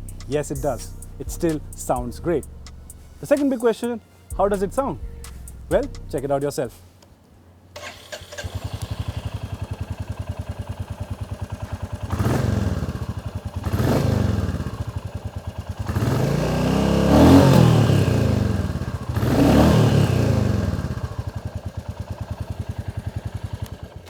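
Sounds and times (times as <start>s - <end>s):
engine revving in throttle blips: 0.0s - 6.8s, 7.8s - 24.0s
motorcycle engine idling: 0.0s - 6.8s, 7.8s - 24.0s.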